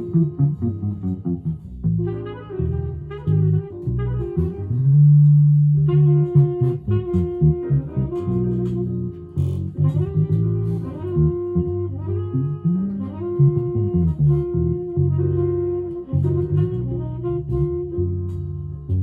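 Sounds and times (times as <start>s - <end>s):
electric guitar playing slow jazz: 0.0s - 19.0s.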